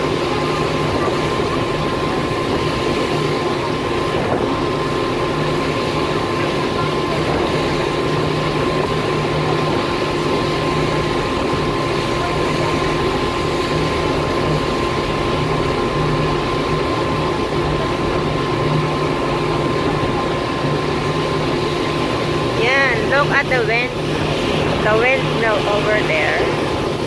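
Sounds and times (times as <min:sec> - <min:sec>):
boat engine hum with high whine: 0:00.0 - 0:27.0
rush of wind and water: 0:00.0 - 0:27.0.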